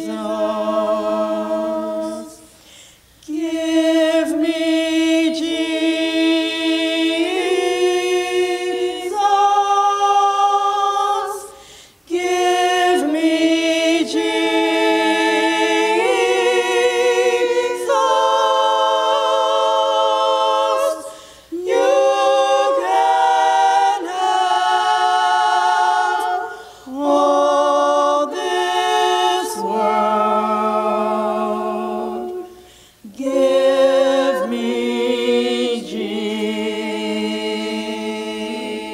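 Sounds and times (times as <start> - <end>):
women singing a cappella: 0.0 - 38.9.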